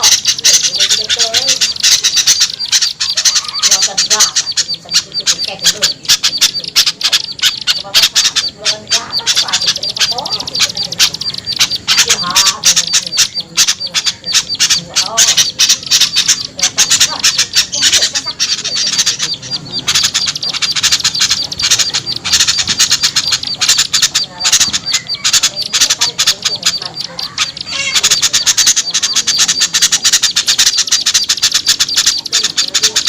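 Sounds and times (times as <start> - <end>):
small birds chattering: 0.0 - 33.0.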